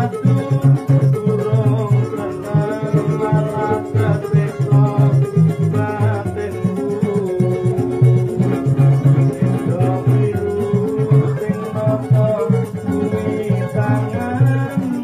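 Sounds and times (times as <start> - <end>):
held melody line: 0.0 - 15.0
plucked cello bass line: 0.0 - 15.0
strummed small lutes: 0.0 - 15.0.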